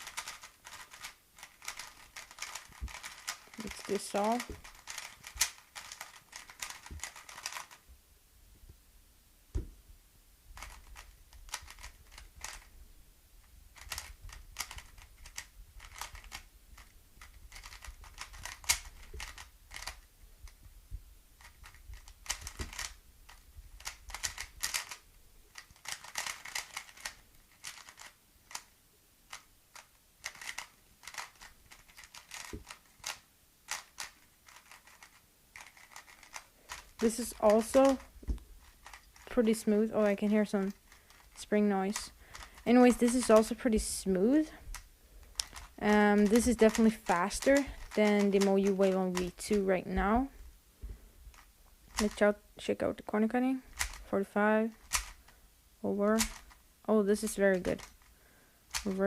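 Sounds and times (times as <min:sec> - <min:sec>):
plastic puzzle cube clicking: 0:00.0 - 0:07.8, 0:10.6 - 0:12.7, 0:13.8 - 0:20.6, 0:21.4 - 0:28.7, 0:29.3 - 0:44.1, 0:44.7 - 0:50.3, 0:51.3 - 0:52.3, 0:53.7 - 0:54.1, 0:54.7 - 0:55.4, 0:56.1 - 0:56.6, 0:57.2 - 0:59.0.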